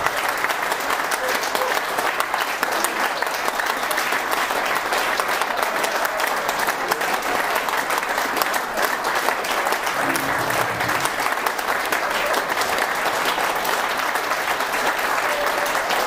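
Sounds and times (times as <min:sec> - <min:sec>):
audience clapping: 0:00.0 - 0:16.0.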